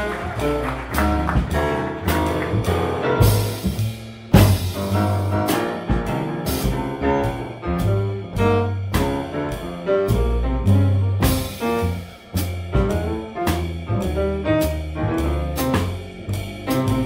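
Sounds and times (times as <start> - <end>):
grand piano: 0.0 - 17.0
loud drum accent: 0.0 - 17.0
small-band jazz: 0.0 - 17.0.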